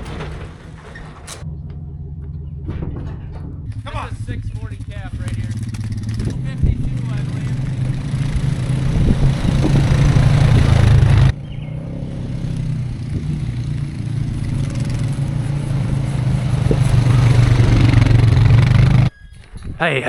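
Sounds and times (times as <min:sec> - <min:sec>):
clatter: 0:00.0 - 0:11.4, 0:12.4 - 0:19.1
vehicle engine running: 0:00.0 - 0:19.1.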